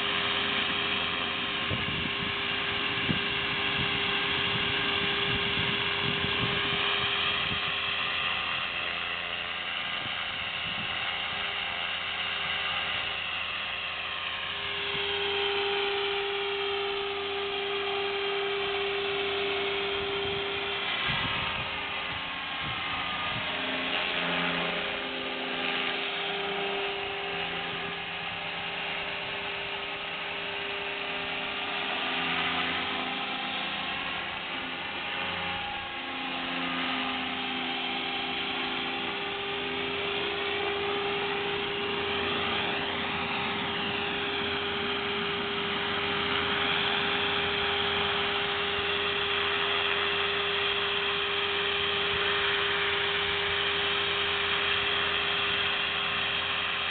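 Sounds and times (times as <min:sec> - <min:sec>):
rc helicopter motor whine: 0:00.0 - 0:56.9
rotor buzz: 0:00.0 - 0:56.9.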